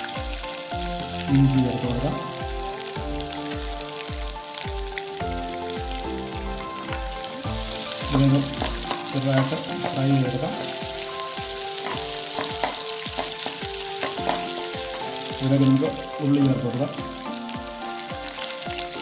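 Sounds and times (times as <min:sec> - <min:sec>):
background music with beat: 0:00.0 - 0:19.0
oil sizzling in a pan: 0:00.0 - 0:19.0.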